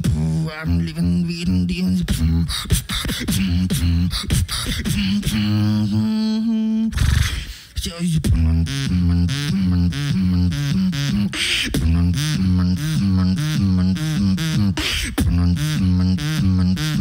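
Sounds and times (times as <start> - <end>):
beatboxing into microphone: 0.0 - 17.0.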